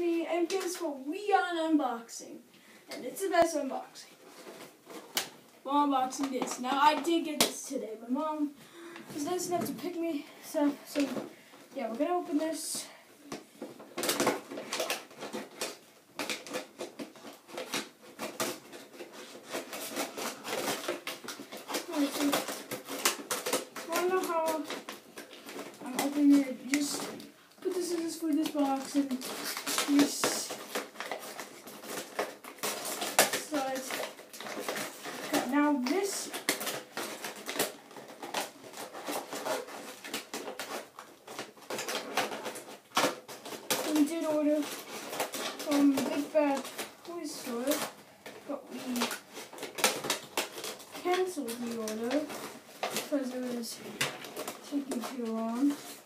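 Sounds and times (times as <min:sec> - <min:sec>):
packaging rustling and crinkling: 0:03.1 - 0:56.0.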